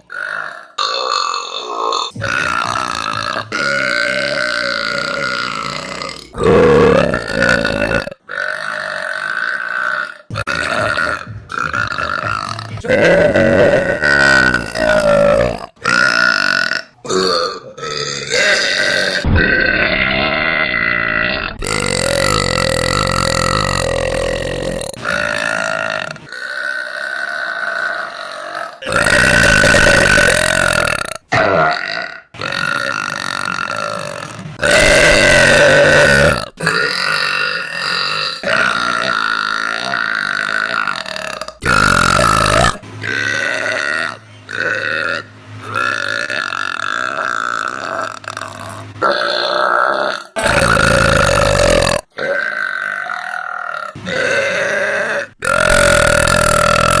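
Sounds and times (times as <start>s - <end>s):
woman belching loudly: 0.0s - 57.0s.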